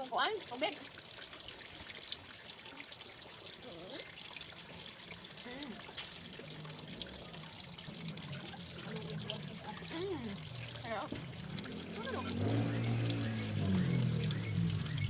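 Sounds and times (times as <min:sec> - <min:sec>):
water trickling into plastic bin: 0:00.0 - 0:15.0.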